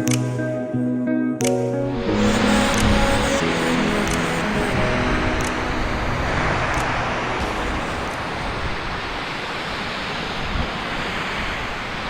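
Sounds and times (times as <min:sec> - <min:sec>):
water rushing: 0:01.9 - 0:12.0.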